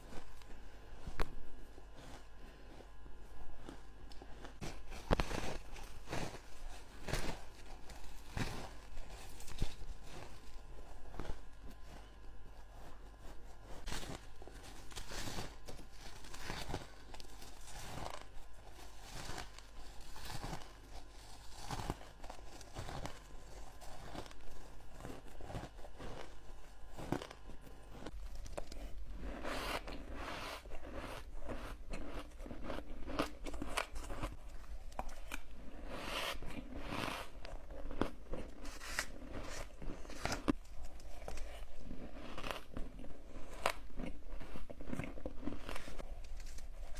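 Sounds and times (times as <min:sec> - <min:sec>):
ice being chewed: 0:00.0 - 0:46.9.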